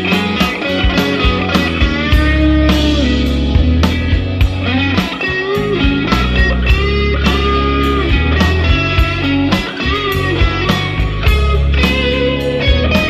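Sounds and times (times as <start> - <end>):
bass line: 0.0 - 13.0
drum beat: 0.0 - 13.0
electric guitar bending notes: 0.0 - 13.0.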